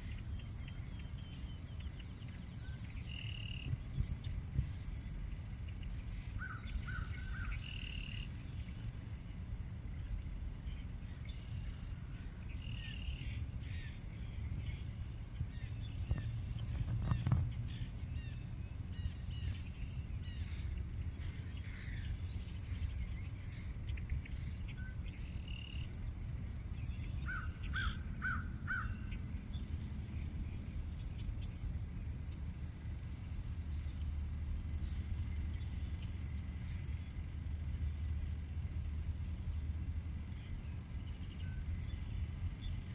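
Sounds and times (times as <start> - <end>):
low rumble: 0.0 - 42.9.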